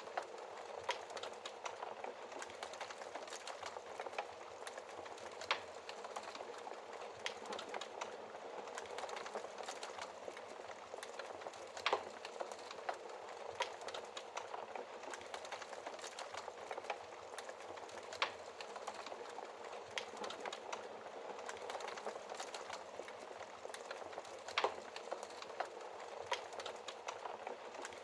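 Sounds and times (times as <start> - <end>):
fire pops and snaps: 0.0 - 28.0
wood fire crackling: 0.0 - 28.0.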